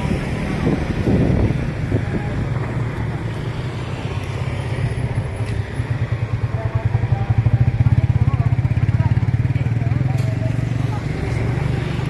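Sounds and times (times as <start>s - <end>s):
vehicle engines humming: 0.0s - 12.0s.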